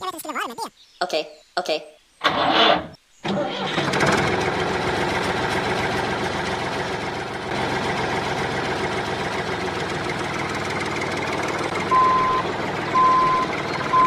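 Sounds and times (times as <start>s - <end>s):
tractor engine running: 2.2s - 14.0s.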